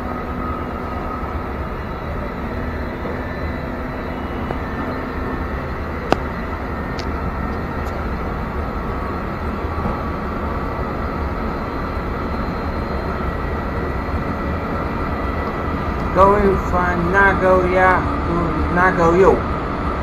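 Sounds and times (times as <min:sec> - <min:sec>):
train rumbling from inside: 0:00.0 - 0:20.0.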